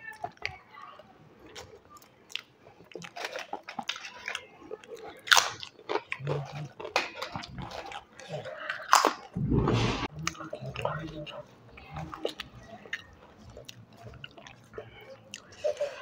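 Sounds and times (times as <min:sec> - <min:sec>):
crisp food crunching: 0:01.4 - 0:09.4, 0:10.1 - 0:16.0.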